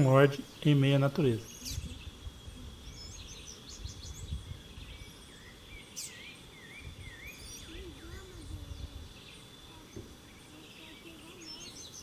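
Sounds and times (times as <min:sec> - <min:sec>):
birds chirping: 0:00.0 - 0:12.0
swooping bird calls: 0:00.0 - 0:12.0.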